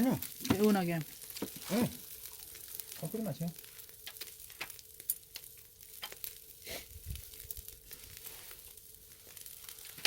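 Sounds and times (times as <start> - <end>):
meat sizzling on grill: 0.0 - 10.0
sharp crackles: 0.0 - 10.0.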